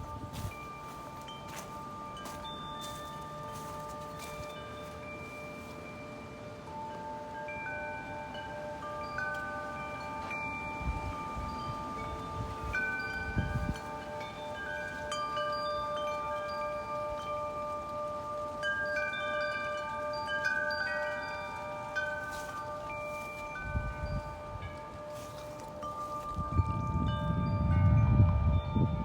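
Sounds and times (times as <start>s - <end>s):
wind rumble on microphone: 0.0s - 4.8s, 8.5s - 29.0s
wind chimes ringing: 0.0s - 29.0s.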